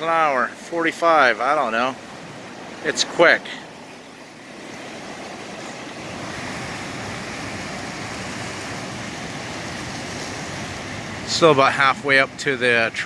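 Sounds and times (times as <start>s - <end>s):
river rushing over waterfall: 0.0s - 13.0s.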